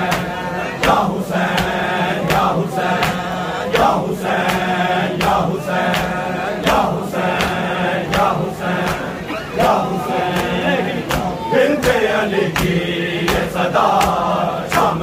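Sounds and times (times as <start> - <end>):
men chanting together: 0.0 - 15.0
hands slapping chests: 0.1 - 9.1, 10.3 - 15.0.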